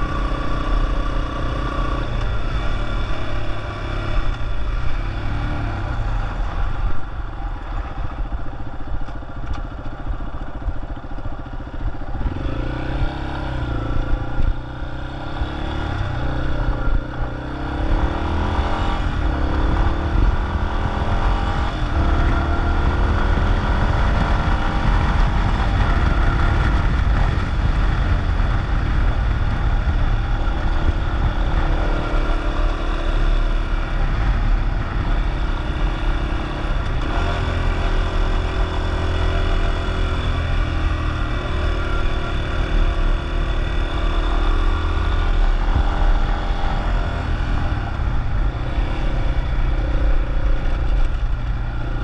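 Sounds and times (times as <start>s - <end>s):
motorcycle engine running: 0.0s - 52.0s
wind rumble on microphone: 0.0s - 52.0s.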